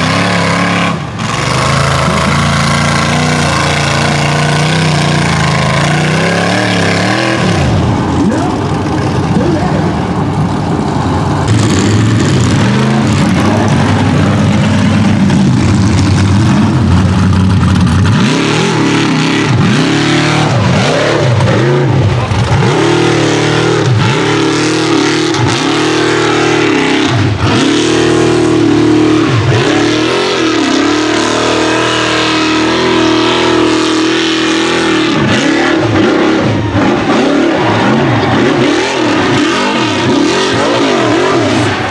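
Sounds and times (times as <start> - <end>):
buggy engine revving: 0.0 - 41.9
tires spinning and throwing dirt: 0.0 - 41.9.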